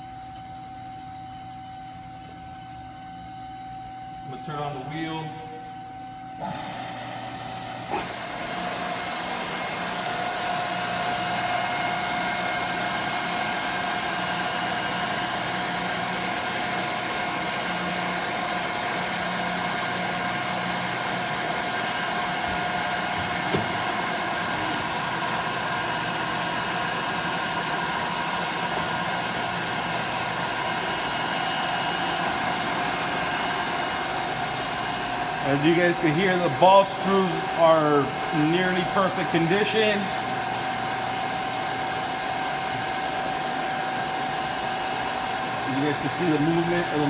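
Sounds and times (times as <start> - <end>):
grinding machine whining: 0.0 - 47.0.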